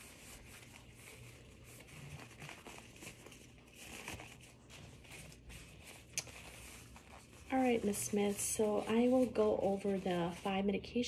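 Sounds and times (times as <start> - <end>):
gloves rustling and crinkling: 0.0 - 11.0.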